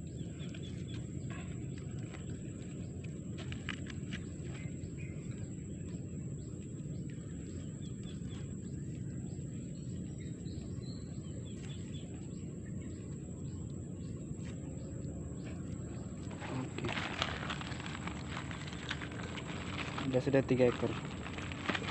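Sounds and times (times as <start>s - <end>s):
faint bird chirps: 0.0s - 21.9s
steady low rumble: 0.0s - 21.9s.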